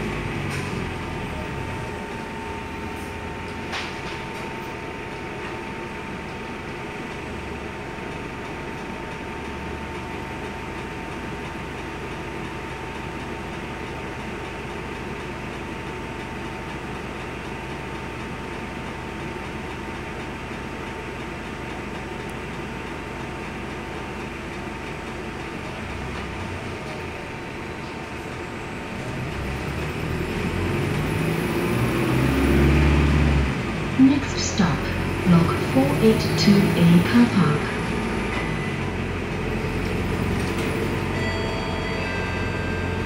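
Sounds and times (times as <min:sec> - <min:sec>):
bus cabin hum: 0:00.0 - 0:43.0.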